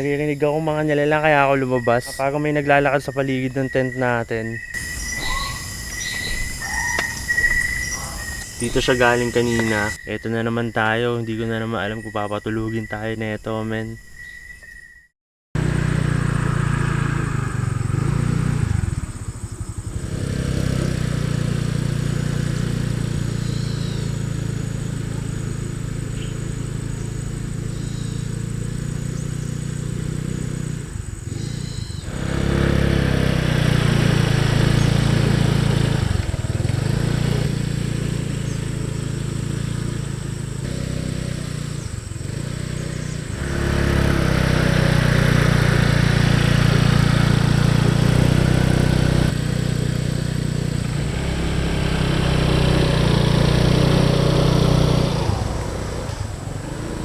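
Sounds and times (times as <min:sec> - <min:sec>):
vehicle engine running: 0:04.7 - 0:10.0, 0:15.6 - 0:57.0.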